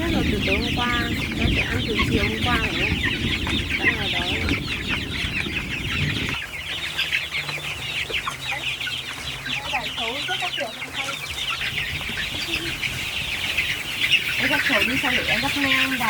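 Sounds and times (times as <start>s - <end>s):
chickens clucking: 0.0s - 16.0s
chicks calling high-pitched: 0.0s - 16.0s.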